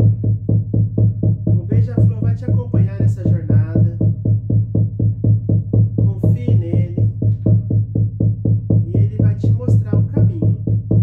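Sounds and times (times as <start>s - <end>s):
frame drum beating: 0.0s - 11.0s.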